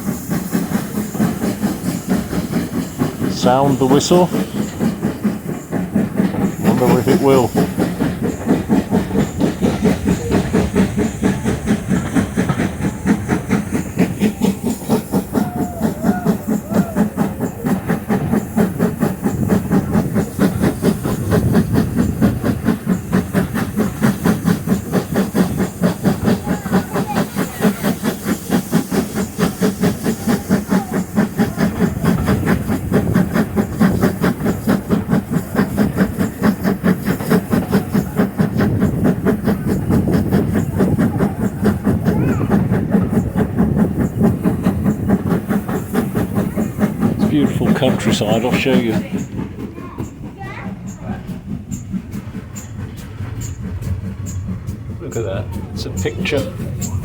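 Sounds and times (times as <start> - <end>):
steam locomotive exhaust beats: 0.0 - 57.0.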